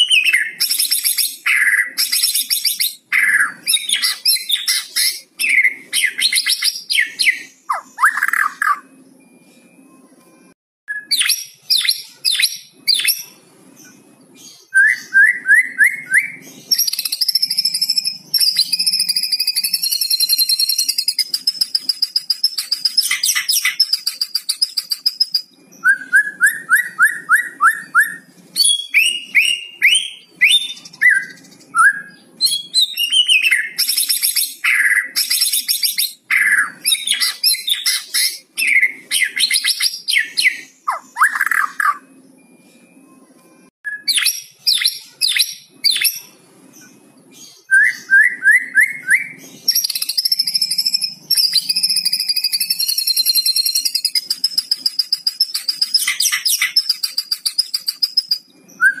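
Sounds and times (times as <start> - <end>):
bird whistled song notes: 0.0 - 9.6, 10.4 - 13.4, 14.4 - 42.7, 43.9 - 46.3, 47.4 - 59.0.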